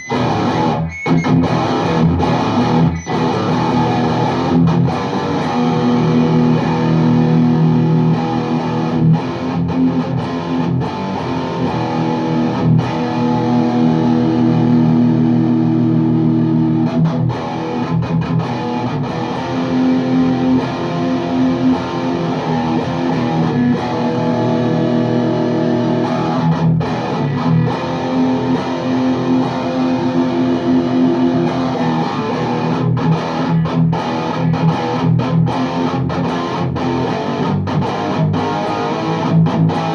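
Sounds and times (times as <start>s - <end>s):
distorted electric guitar riffs: 0.0s - 39.9s.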